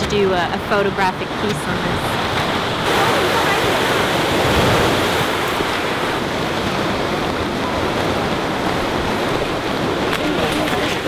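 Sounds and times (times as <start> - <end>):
ocean waves breaking on shore: 0.0 - 11.0.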